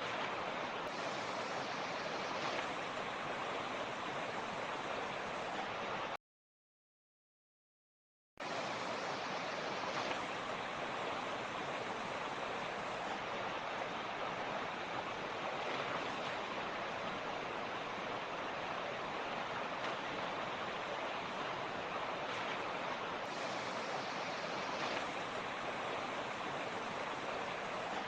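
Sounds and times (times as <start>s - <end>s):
creek rushing over rocks: 0.0s - 6.2s, 8.4s - 28.0s.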